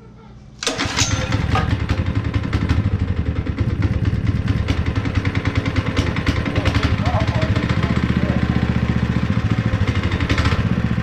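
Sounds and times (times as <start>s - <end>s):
small engine starting and running: 0.6s - 11.0s.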